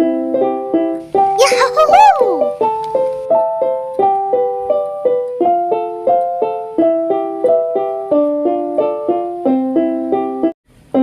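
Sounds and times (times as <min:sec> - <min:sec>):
keyboard playing melody with chords: 0:00.0 - 0:11.0.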